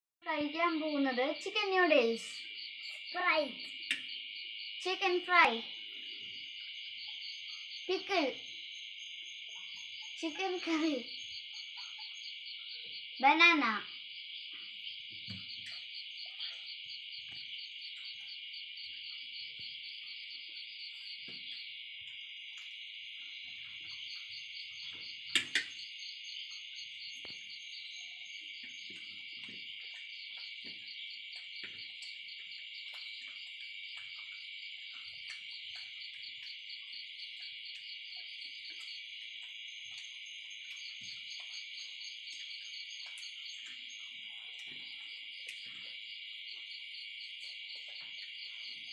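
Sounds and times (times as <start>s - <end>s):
insect chirring: 0.2s - 48.9s.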